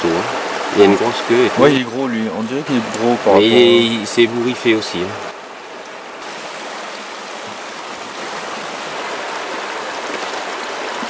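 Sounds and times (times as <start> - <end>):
stream running over stones: 0.0 - 11.0.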